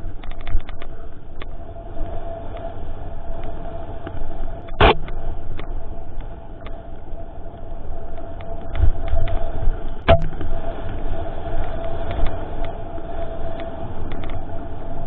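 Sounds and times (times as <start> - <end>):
steady hum: 0.0 - 15.0
wind rumble on microphone: 0.0 - 15.0.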